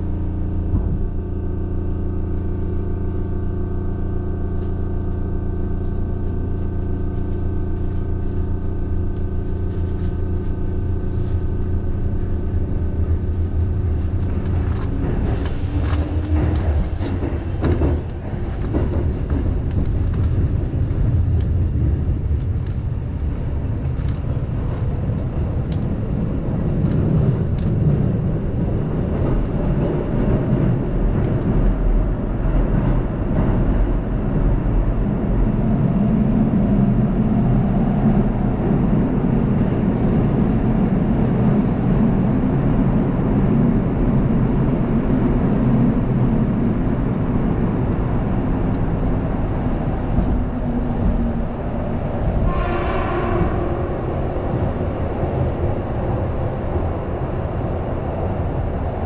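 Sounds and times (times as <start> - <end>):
train wheels rumbling: 5.8 - 59.0.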